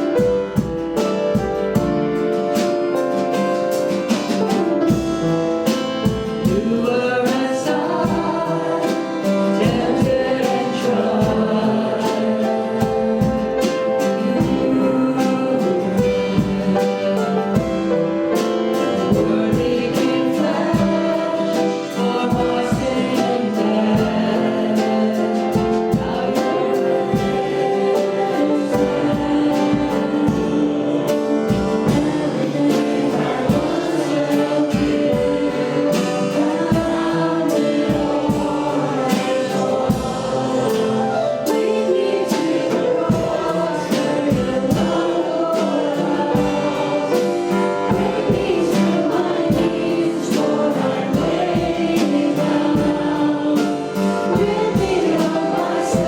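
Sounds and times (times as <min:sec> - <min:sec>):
band keeping a steady beat: 0:00.0 - 0:56.0
group singing a hymn: 0:00.0 - 0:56.0.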